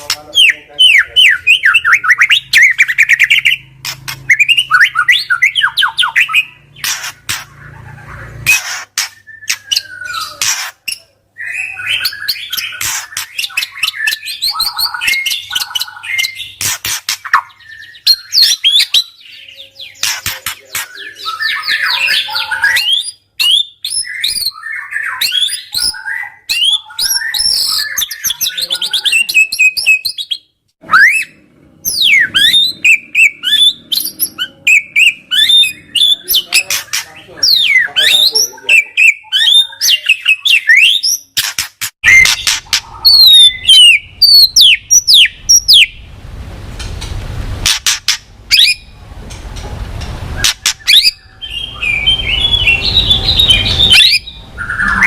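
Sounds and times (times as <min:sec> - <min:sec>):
songbird whistling and chattering: 0:00.0 - 0:46.0, 0:47.7 - 0:49.0, 0:50.4 - 0:55.0.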